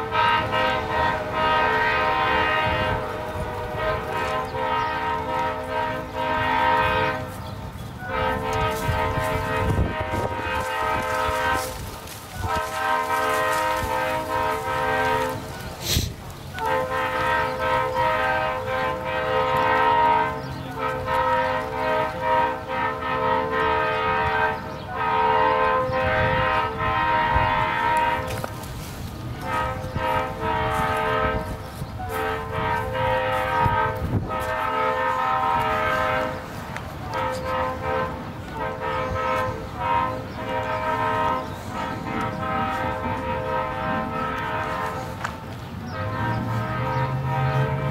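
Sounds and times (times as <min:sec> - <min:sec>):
locomotive air horn blasts: 0:00.0 - 0:47.9.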